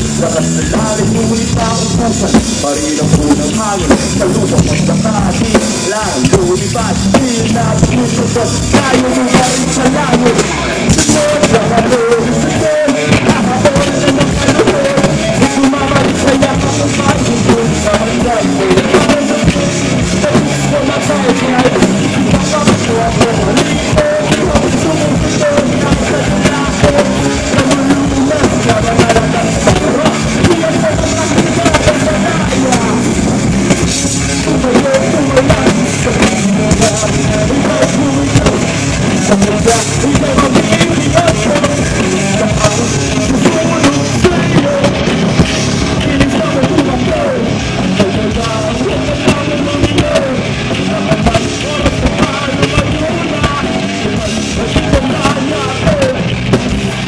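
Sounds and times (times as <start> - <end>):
person singing: 0.0 - 56.3
bass guitar: 0.0 - 57.0
drum kit: 0.0 - 57.0
electric guitars: 0.0 - 57.0.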